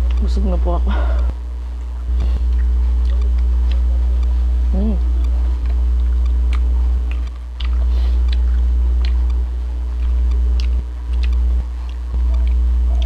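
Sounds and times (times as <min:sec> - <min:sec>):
chewing food: 0:00.0 - 0:00.3, 0:00.9 - 0:13.0
steady low hum: 0:00.0 - 0:13.0.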